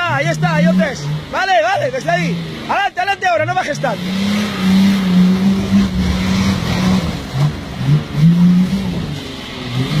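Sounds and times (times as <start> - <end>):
four-wheel drive engine revving: 0.0 - 10.0.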